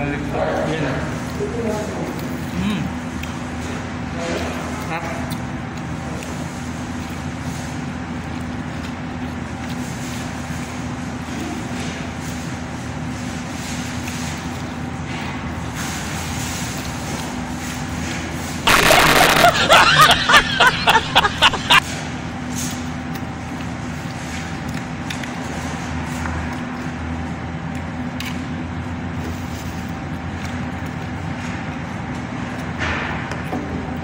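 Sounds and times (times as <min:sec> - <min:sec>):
restaurant dining room hum: 0:00.0 - 0:34.0.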